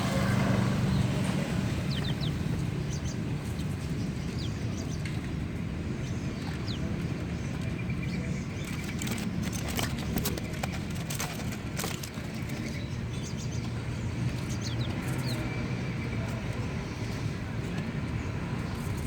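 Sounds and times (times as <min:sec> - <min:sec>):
caged birds chirping: 0:00.0 - 0:19.0.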